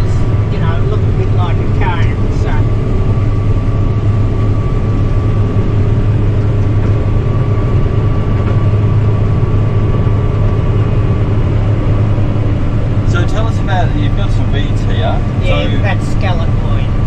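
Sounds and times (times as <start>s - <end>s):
combine harvester engine drone: 0.0s - 17.0s
faint steady whine: 0.0s - 17.0s.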